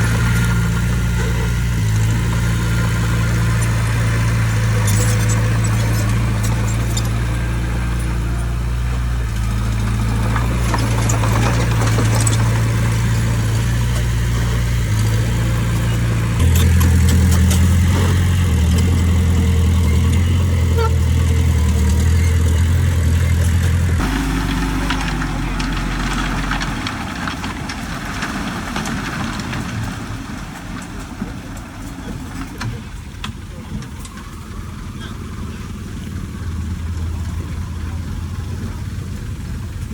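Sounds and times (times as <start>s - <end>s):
clanks and rattles: 0.0s - 39.9s
heavy machinery diesel engine: 0.0s - 39.9s.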